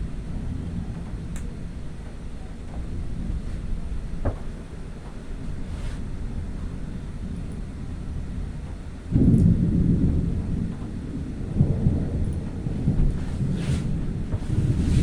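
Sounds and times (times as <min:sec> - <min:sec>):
thunder rumbling: 0:00.0 - 0:15.0
wind noise on microphone: 0:00.0 - 0:15.0.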